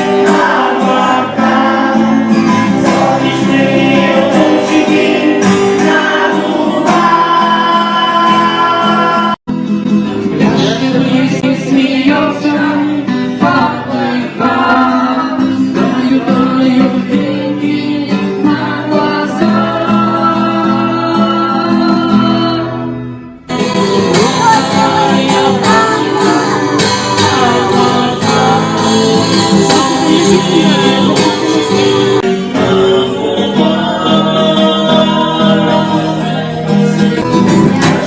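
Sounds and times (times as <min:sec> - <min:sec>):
song with guitar accompaniment: 0:00.0 - 0:38.0.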